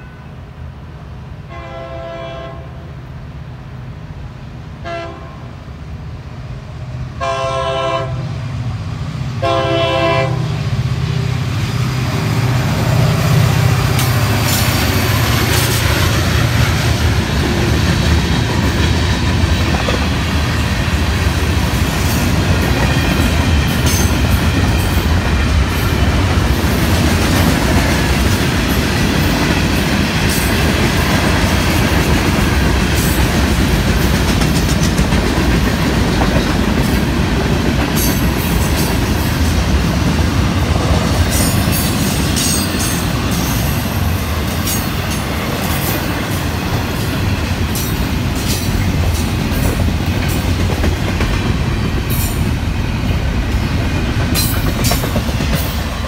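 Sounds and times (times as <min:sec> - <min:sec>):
train wheels rumbling on rails: 0:05.8 - 0:56.0.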